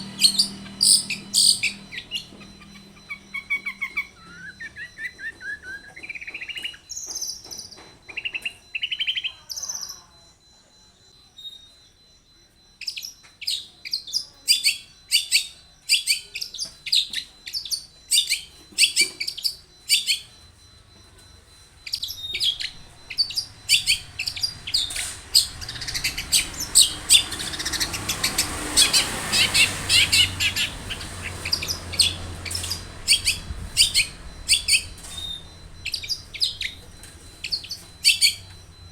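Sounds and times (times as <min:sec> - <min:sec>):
shrike singing: 0:00.0 - 0:10.5, 0:12.0 - 0:38.9.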